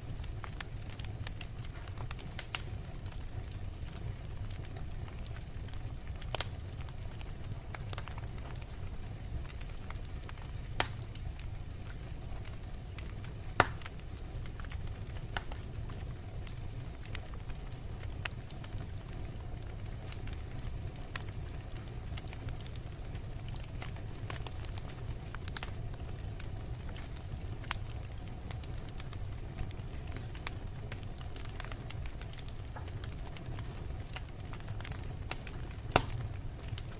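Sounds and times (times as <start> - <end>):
log fire crackling and popping: 0.0 - 36.9
low rumble of fire: 0.0 - 36.9.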